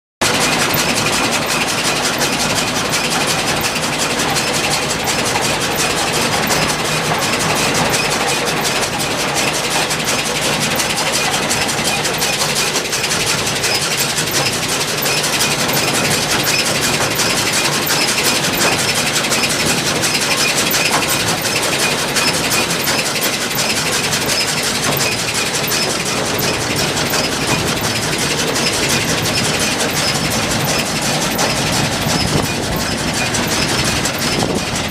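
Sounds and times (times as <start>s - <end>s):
baler mechanical clatter: 0.2s - 34.9s
tractor engine running: 0.2s - 34.9s.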